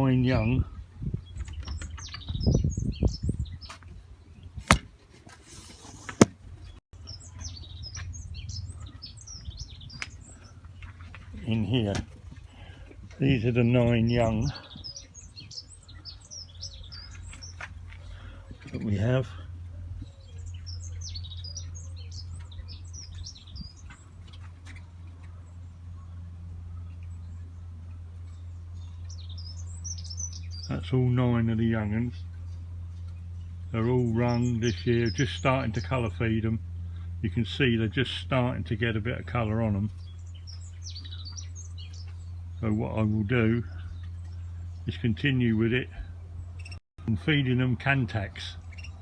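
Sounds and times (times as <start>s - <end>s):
steady low hum: 0.0s - 49.0s
canaries chirping: 5.7s - 31.0s, 32.1s - 38.2s, 38.8s - 49.0s.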